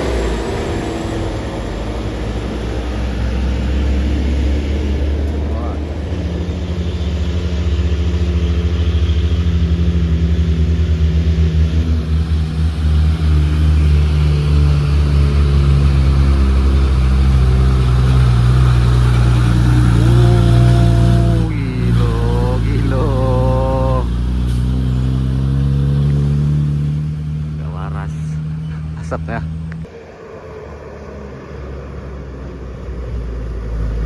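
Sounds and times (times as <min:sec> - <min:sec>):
diesel truck engine labouring: 0:00.0 - 0:34.0.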